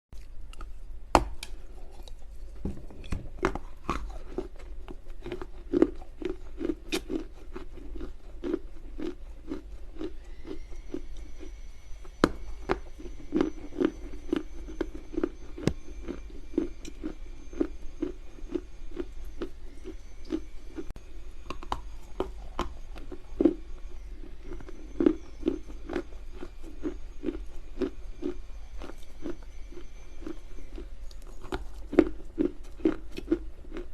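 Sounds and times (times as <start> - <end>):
chewing and crunching clay: 0.2 - 33.9.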